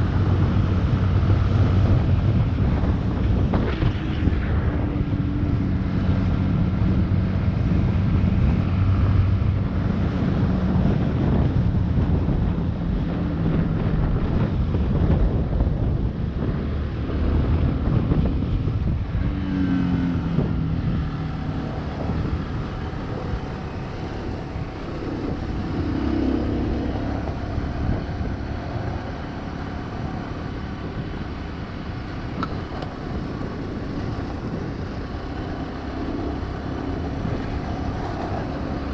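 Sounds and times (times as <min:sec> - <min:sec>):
motorcycle engine running: 0:00.0 - 0:38.9
rush of riding noise: 0:00.0 - 0:38.9.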